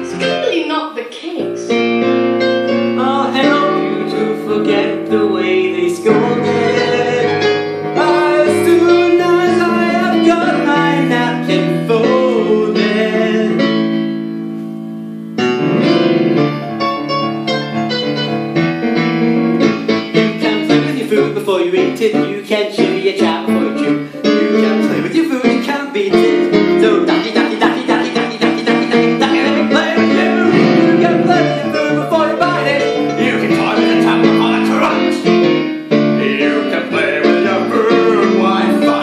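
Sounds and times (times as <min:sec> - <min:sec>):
show tune music led by piano: 0:00.0 - 0:39.0.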